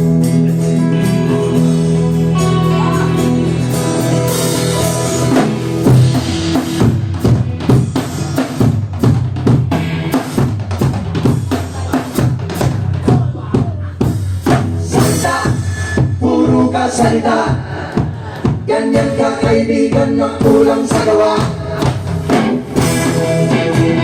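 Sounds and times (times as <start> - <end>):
steady bass line: 0.0 - 24.0.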